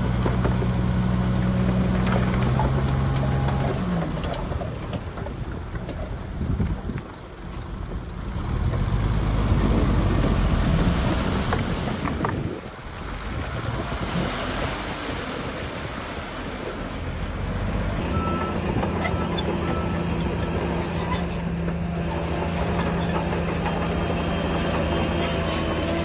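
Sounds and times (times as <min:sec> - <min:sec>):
diesel earthmoving machinery rumble: 0:00.0 - 0:26.0
track and ground noise: 0:00.0 - 0:26.0.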